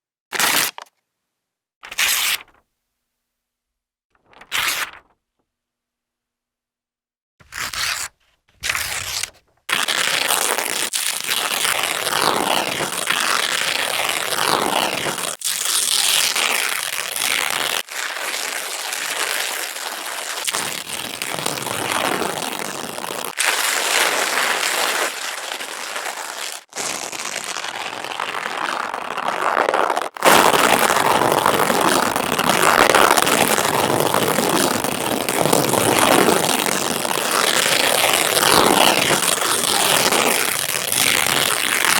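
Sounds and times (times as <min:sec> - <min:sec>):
paper crackling and rustling: 0:00.4 - 0:00.9, 0:02.1 - 0:02.6, 0:04.2 - 0:05.2, 0:07.4 - 0:41.9.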